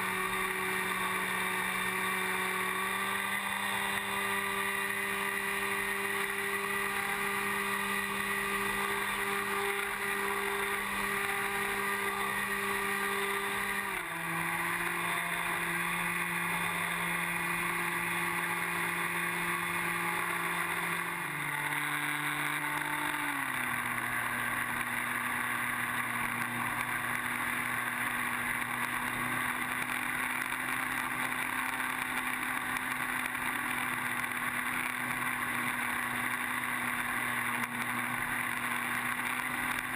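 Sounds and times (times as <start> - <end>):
electric motor drone: 0.0 - 39.9.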